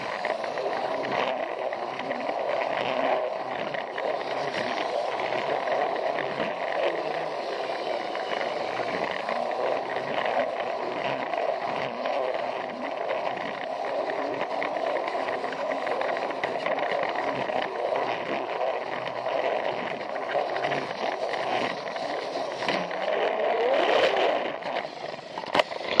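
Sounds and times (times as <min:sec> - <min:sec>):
toy train motor running: 0:00.0 - 0:26.0
wheels rattling on plastic track: 0:00.0 - 0:26.0.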